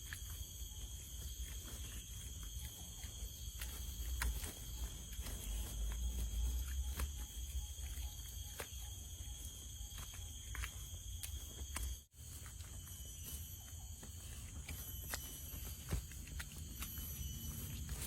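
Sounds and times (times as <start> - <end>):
insects chirping chorus: 0.0 - 18.0.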